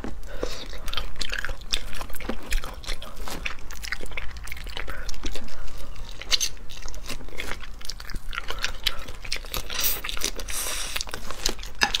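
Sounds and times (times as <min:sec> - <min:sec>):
chewing crunchy shell: 0:00.0 - 0:12.0.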